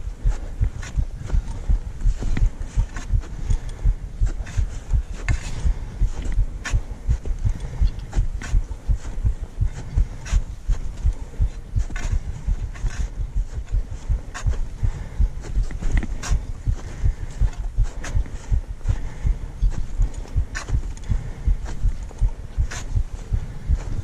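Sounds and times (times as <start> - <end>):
footsteps crunching on snow: 0.0 - 24.0.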